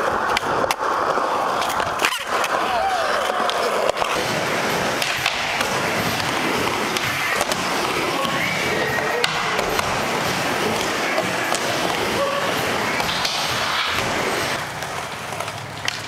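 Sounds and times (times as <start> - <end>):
skateboard clacks: 0.0 - 16.0
skateboard wheels rolling on wood: 0.0 - 16.0.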